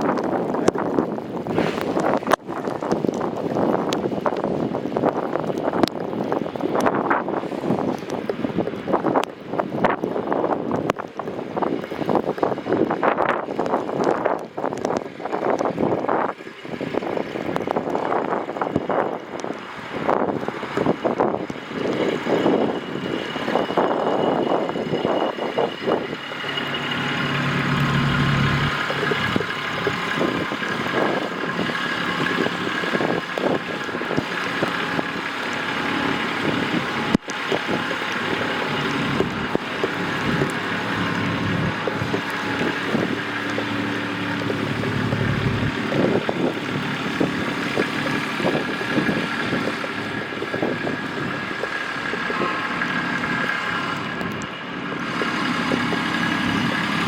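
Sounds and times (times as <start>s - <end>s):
city street traffic: 0.0s - 57.0s
heavy vehicle engine running: 0.0s - 57.0s.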